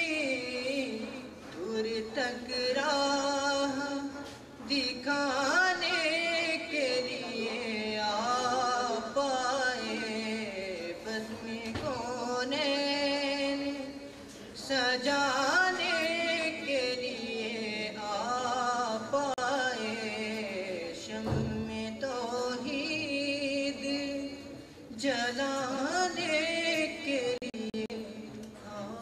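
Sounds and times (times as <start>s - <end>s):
man reciting melodically: 0.0s - 29.0s.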